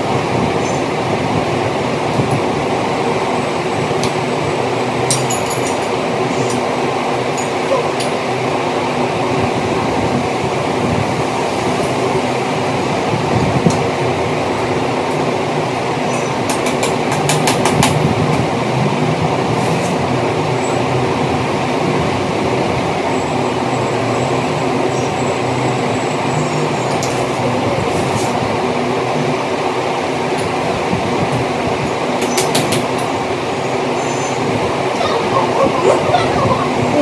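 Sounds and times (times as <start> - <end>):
loud rumbling background noise: 0.0 - 37.0.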